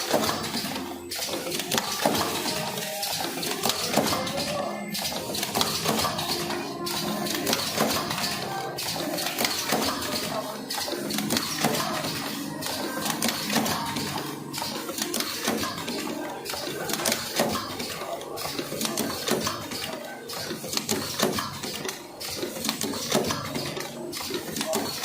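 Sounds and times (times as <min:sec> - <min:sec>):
machine clicking and clattering: 0:00.0 - 0:25.0
mechanical hum: 0:00.0 - 0:25.0.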